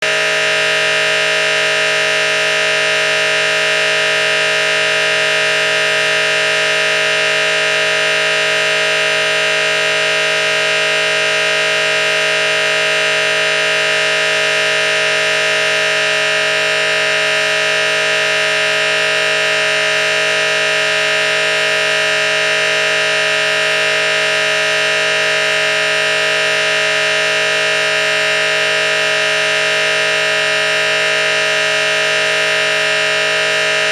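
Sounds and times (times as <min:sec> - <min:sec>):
loud steady horn-like chord: 0:00.0 - 0:33.9.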